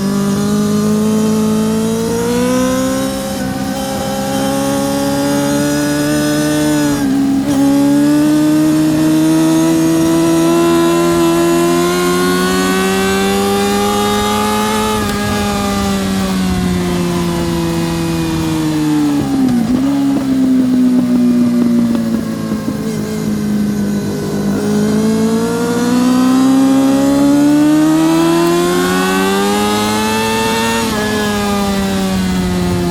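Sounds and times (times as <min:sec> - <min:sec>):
motorcycle engine at racing speed: 0:00.0 - 0:32.9.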